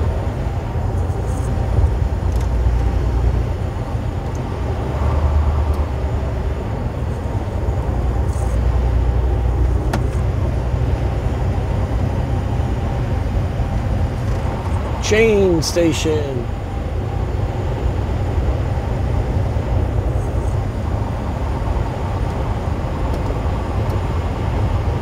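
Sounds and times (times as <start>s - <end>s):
diesel truck engine droning: 0.0s - 25.0s
road and tyre noise: 0.0s - 25.0s.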